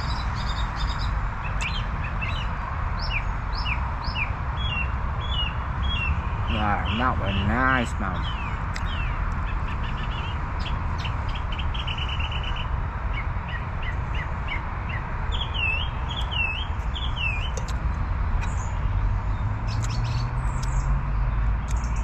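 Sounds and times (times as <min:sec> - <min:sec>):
road traffic rumble: 0:00.0 - 0:22.0
small birds chirping: 0:00.0 - 0:22.0.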